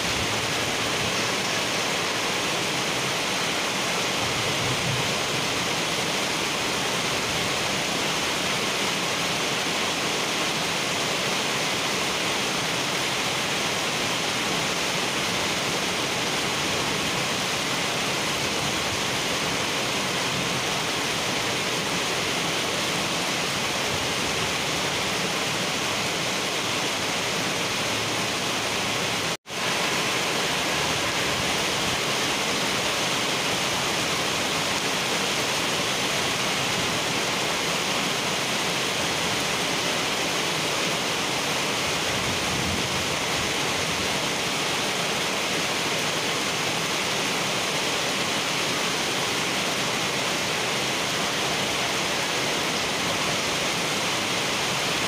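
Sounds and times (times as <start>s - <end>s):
heavy rain on wet road: 0.0s - 55.0s.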